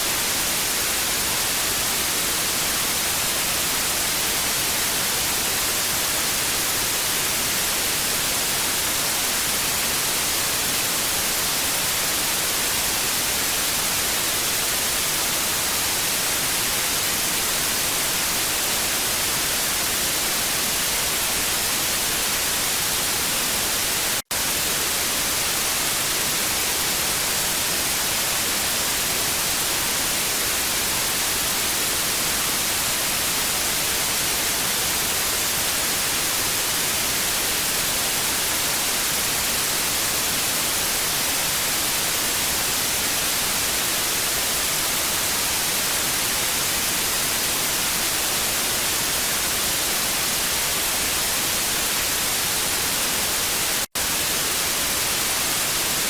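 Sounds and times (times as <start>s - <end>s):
tv static hiss: 0.0s - 56.0s.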